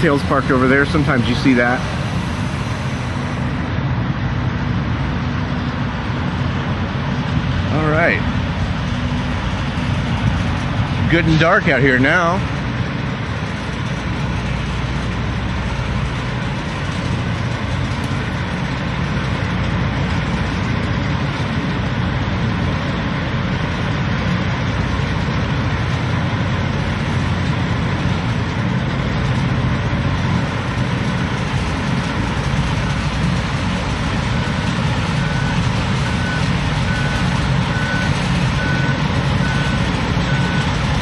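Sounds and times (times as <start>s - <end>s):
diesel truck engines idling: 0.0s - 41.0s.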